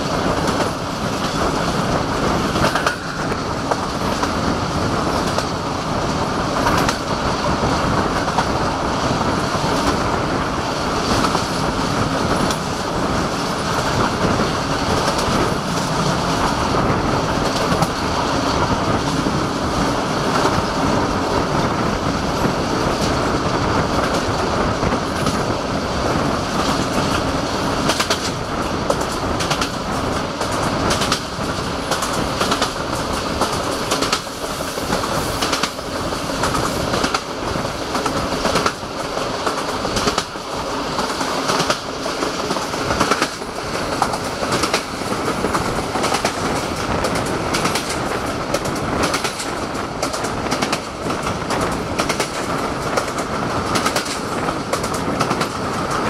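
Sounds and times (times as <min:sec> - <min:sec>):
steady rushing noise: 0:00.0 - 0:56.0
wheels clacking over rail joints: 0:00.0 - 0:56.0.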